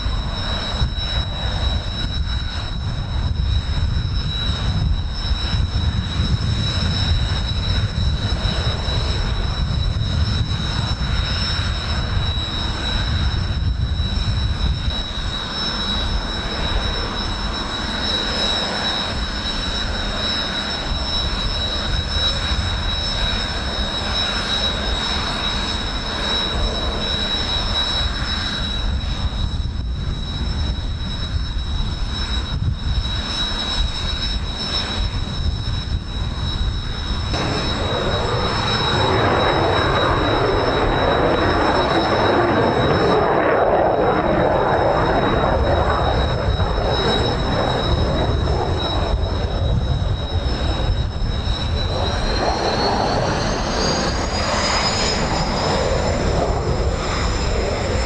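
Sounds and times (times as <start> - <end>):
wind buffeting microphone: 0.0 - 17.7, 20.8 - 58.0
jet engines whining: 0.0 - 58.0.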